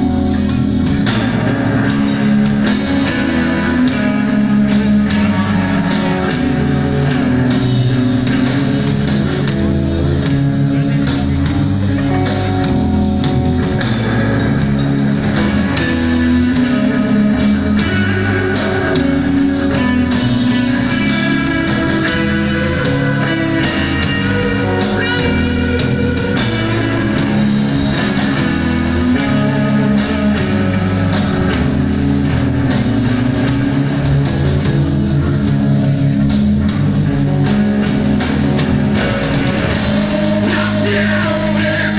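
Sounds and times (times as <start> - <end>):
drum kit beating: 0.0 - 41.9
electric guitars: 0.0 - 41.9.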